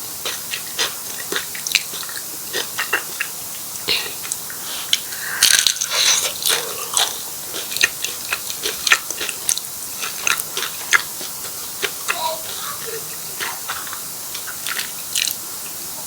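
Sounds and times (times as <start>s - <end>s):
crunchy biting and chewing: 0.2s - 15.4s
mouth clicks: 0.3s - 15.4s.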